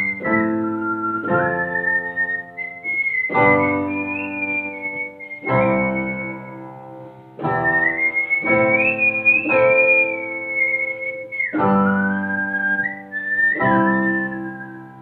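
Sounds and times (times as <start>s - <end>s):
person whistling a melody: 0.0s - 15.0s.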